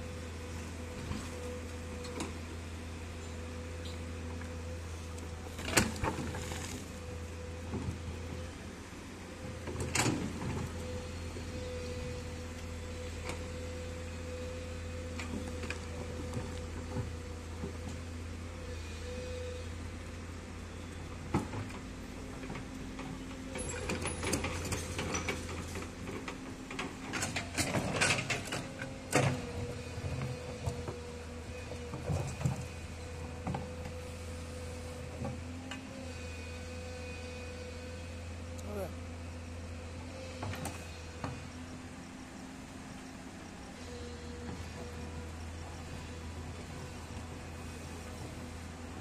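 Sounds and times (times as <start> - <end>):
excavator engine drone: 0.0 - 49.0.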